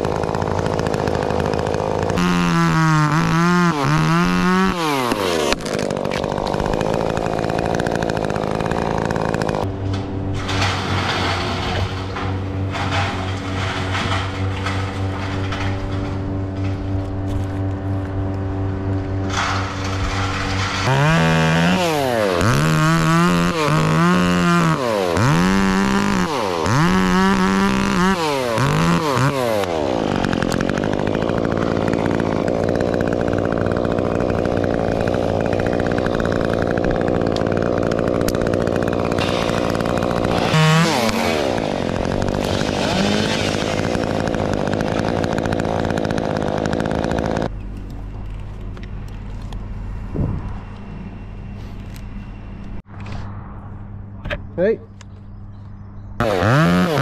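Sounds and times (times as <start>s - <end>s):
chainsaw revving and running: 0.0s - 47.5s, 56.2s - 57.0s.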